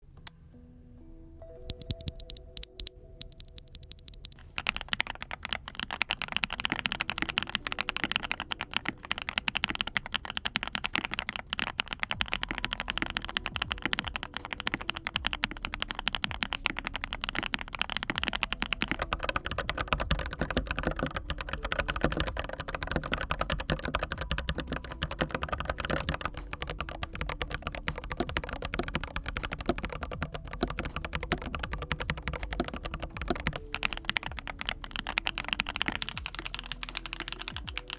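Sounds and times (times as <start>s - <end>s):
fast typing on mechanical keyboard: 1.7s - 37.9s.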